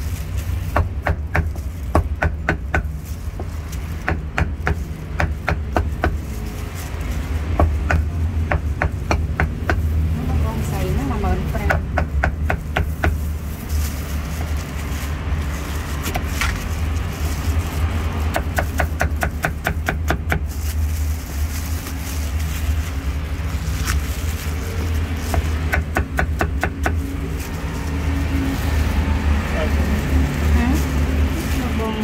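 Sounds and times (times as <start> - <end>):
traffic rumble: 0.0 - 32.0.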